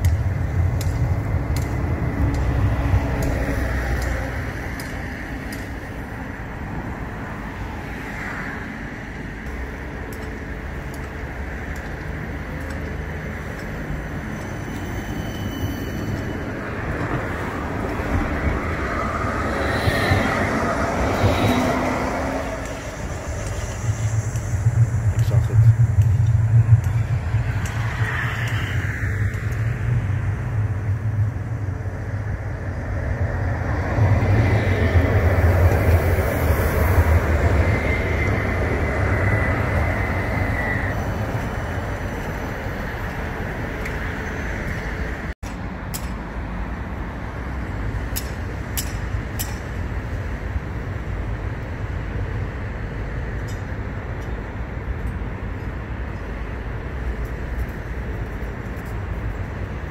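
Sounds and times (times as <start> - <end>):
tram rumbling: 0.0 - 59.9.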